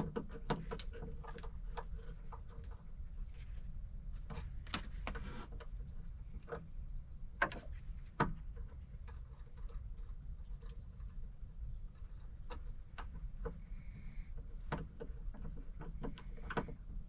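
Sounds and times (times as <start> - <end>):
hands and tools clicking on wiring: 0.0 - 3.5, 4.1 - 17.0
steady low rumble: 0.0 - 17.0.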